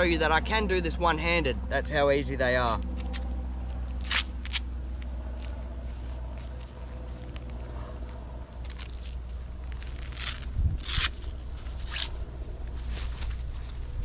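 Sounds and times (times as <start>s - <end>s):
steady low rumble: 0.0s - 14.0s
nylon strap rustling: 2.6s - 14.0s.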